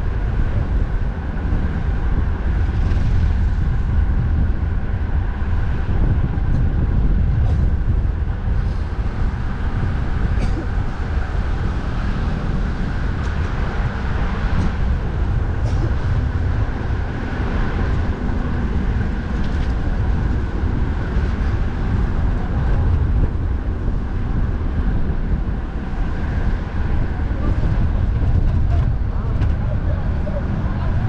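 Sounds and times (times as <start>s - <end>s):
road traffic: 0.0s - 31.0s
wind buffeting microphone: 0.0s - 31.0s.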